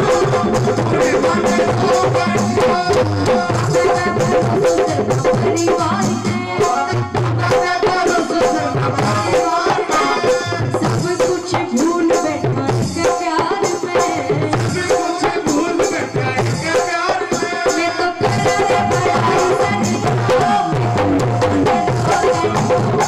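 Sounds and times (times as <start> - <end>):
fast hand drum rhythm: 0.0 - 23.0.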